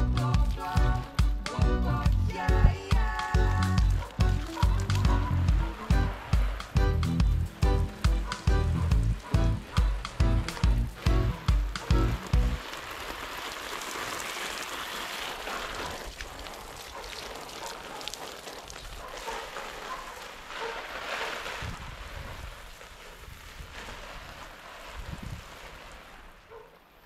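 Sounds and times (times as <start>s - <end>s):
hose water splashing on leaves: 0.0s - 26.5s.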